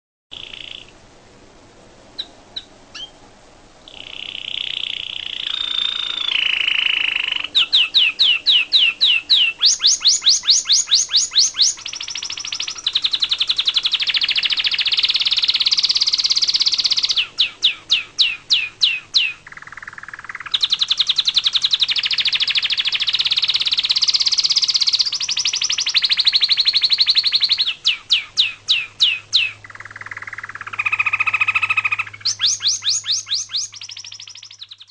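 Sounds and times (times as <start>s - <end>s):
songbirds singing: 0.3s - 1.0s, 2.1s - 34.9s.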